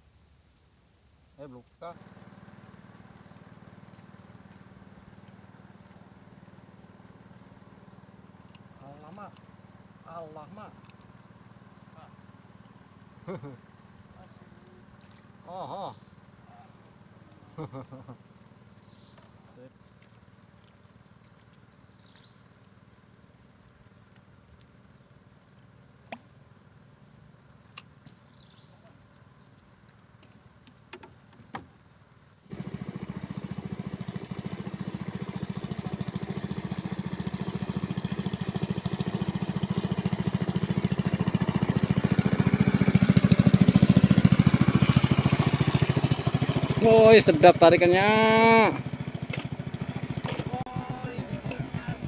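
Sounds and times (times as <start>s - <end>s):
insects droning: 0.0s - 52.0s
small engine puttering: 1.8s - 52.0s.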